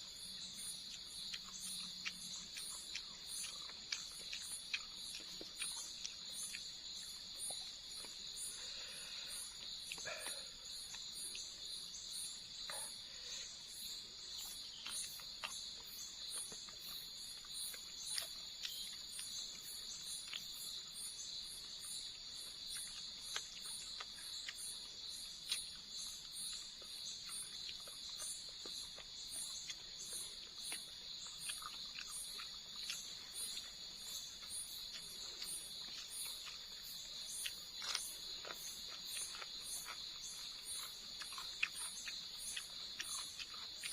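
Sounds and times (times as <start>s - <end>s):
pulsing insect chirp: 0.0s - 43.9s.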